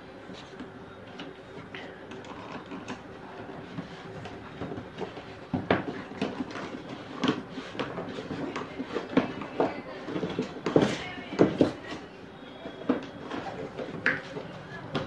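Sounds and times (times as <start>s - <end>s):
cardboard boxes rustling and scraping: 0.2s - 15.0s.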